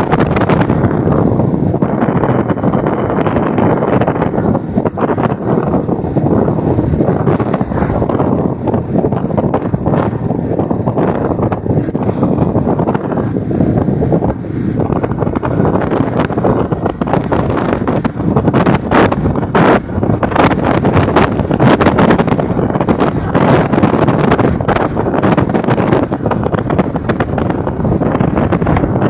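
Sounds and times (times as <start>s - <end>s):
motorcycle engine: 0.0s - 29.0s
road noise: 0.0s - 29.0s
wind buffeting microphone: 0.0s - 29.0s.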